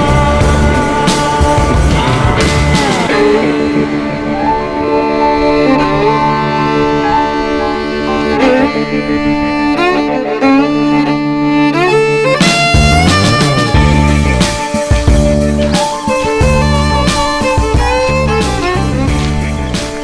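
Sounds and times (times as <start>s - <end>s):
bowed string instrument music: 0.0s - 20.0s.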